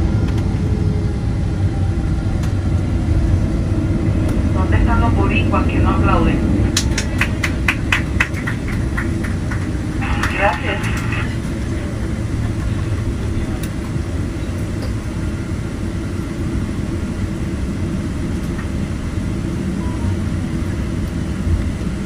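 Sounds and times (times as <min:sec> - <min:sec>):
jet engine rumble in cabin: 0:00.0 - 0:22.0
runway rolling noise: 0:00.0 - 0:22.0.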